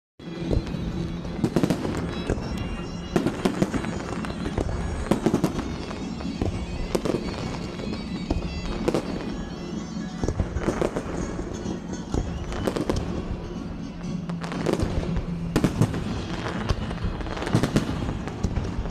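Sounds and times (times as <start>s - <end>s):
fireworks bursting and crackling: 0.2s - 18.9s
music with held drone: 0.2s - 18.9s.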